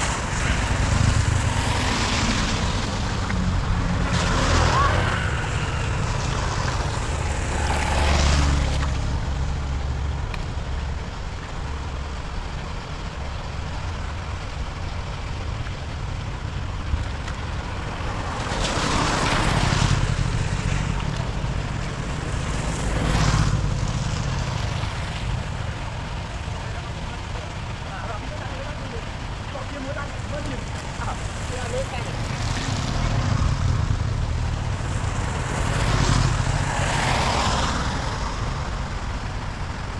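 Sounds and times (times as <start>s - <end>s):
tyres on wet street: 0.0s - 39.9s.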